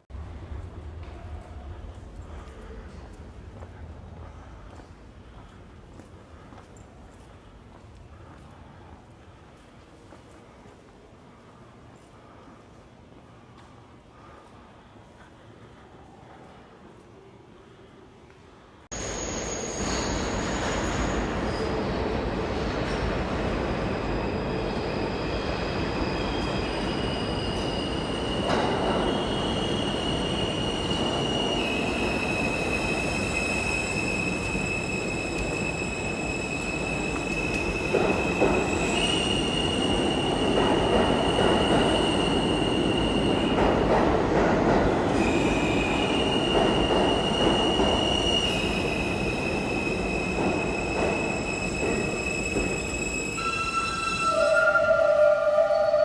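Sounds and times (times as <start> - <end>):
subway train rumble: 0.0 - 56.0.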